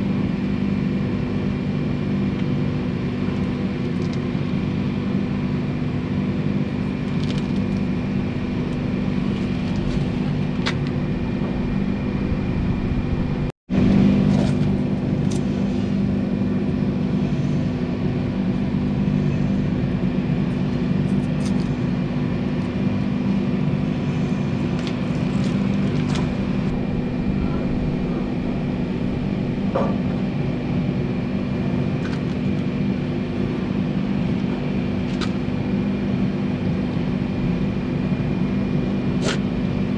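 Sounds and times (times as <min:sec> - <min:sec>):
steady mechanical drone: 0:00.0 - 0:39.9.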